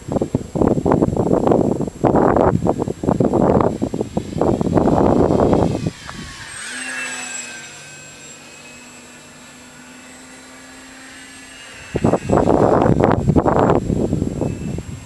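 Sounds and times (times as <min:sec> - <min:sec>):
wind on microphone: 0:00.0 - 0:15.0
model plane motor whining: 0:00.1 - 0:15.0.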